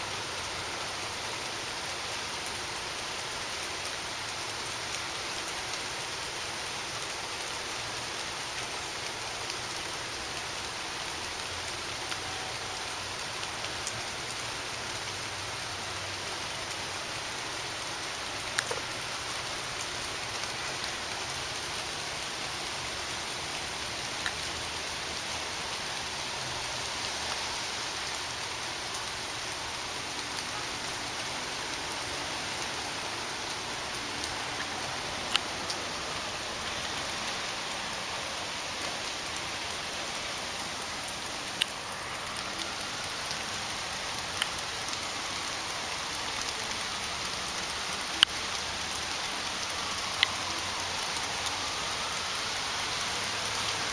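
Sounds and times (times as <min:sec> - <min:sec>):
light rain on concrete: 0:00.0 - 0:53.9.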